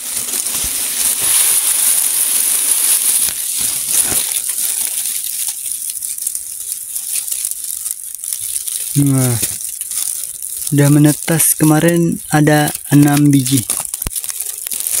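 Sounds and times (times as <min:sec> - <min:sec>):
steady high hiss: 0:00.0 - 0:14.6
dry grass nest rustling: 0:00.0 - 0:15.0.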